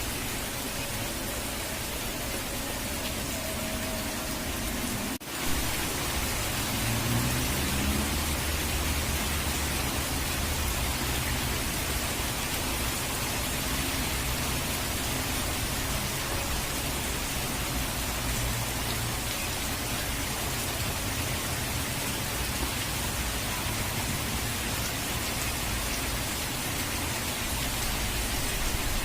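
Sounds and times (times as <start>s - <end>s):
rushing falling water: 0.0s - 29.0s.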